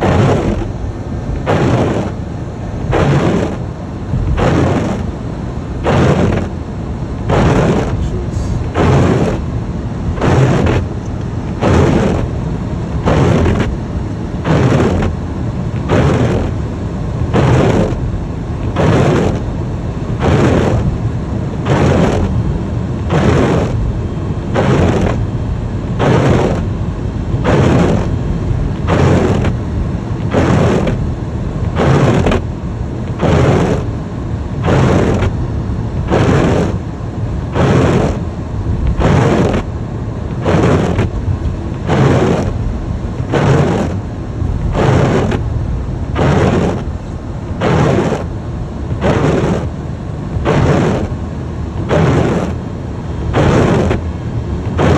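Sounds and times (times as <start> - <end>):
car driving on snowy road: 0.0 - 54.9
windshield wipers swishing: 0.0 - 54.9.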